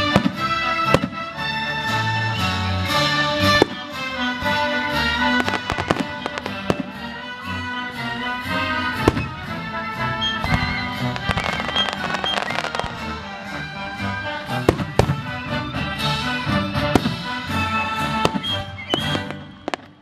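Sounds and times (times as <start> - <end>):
fireworks bangs and crackles: 0.0 - 20.0
orchestra playing held chords: 0.0 - 20.0.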